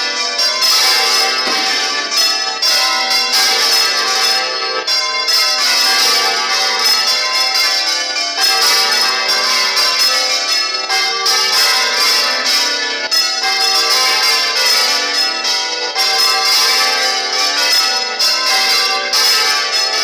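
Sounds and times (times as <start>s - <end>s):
large church bells pealing: 0.0s - 20.0s.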